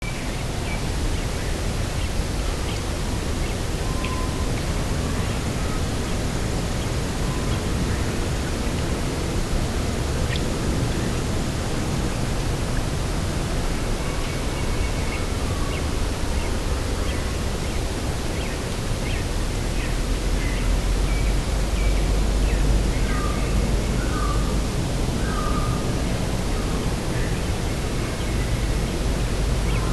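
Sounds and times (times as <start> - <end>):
wind blowing across grass: 0.0 - 29.9.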